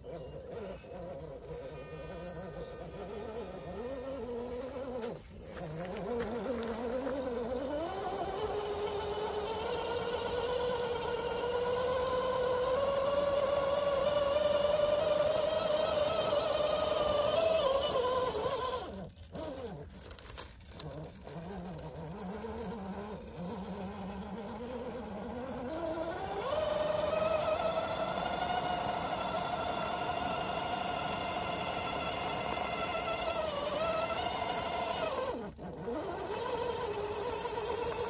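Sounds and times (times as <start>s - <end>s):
electric motor whining: 0.0s - 38.0s.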